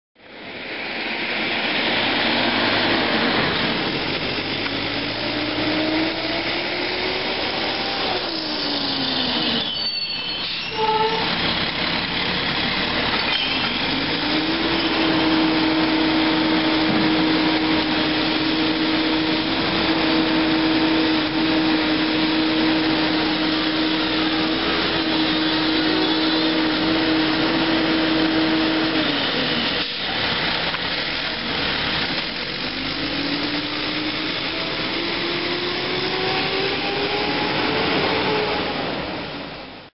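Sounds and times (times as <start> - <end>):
recycling truck engine running: 0.2 - 39.9
hydraulic whine: 1.7 - 39.6.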